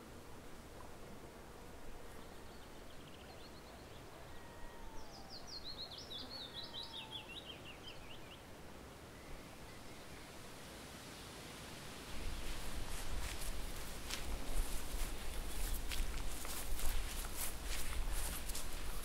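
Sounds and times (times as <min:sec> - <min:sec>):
outdoor background hiss: 0:00.0 - 0:19.0
songbird singing: 0:02.0 - 0:10.4, 0:12.1 - 0:19.0.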